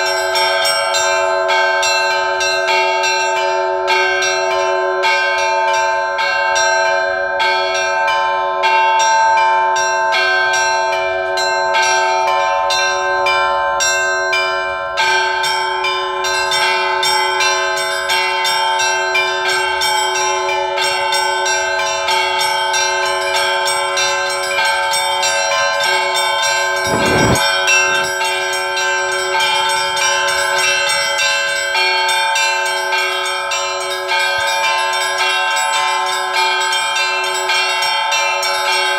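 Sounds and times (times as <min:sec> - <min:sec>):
hum of large bells: 0:00.0 - 0:38.9
small high bells striking: 0:00.0 - 0:38.9.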